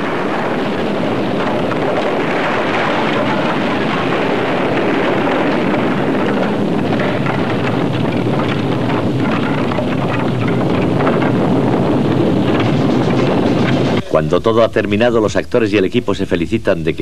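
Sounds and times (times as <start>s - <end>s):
fire rushing and crackling: 0.0s - 17.0s.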